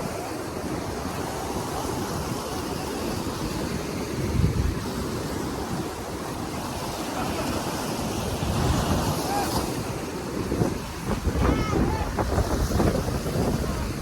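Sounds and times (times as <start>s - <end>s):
ocean surf on a beach: 0.0s - 14.0s
wind buffeting microphone: 0.0s - 14.0s.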